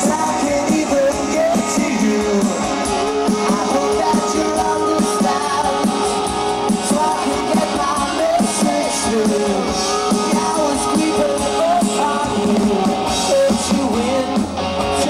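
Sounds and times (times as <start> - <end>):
live rock band playing: 0.0 - 15.0
person singing lead vocal: 0.0 - 15.0.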